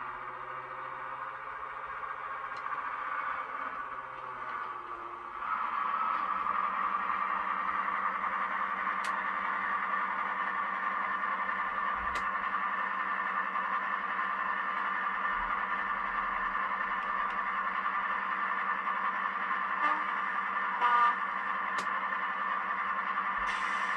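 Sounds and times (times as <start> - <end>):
diesel engine drone through small speakers: 0.0 - 23.9.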